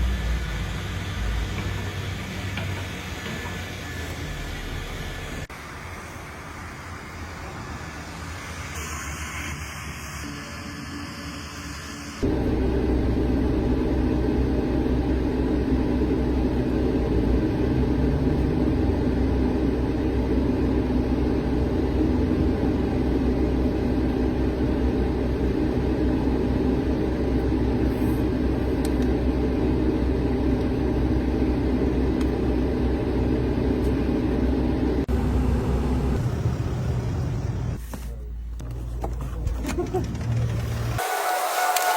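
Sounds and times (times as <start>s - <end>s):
car wash machinery whirring: 0.0s - 41.9s.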